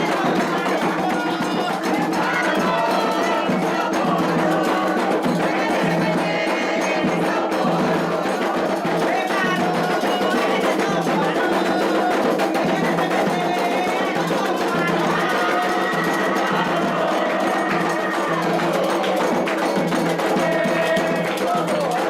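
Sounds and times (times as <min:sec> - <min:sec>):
rhythmic drumming: 0:00.0 - 0:22.0
voices singing: 0:00.0 - 0:22.0.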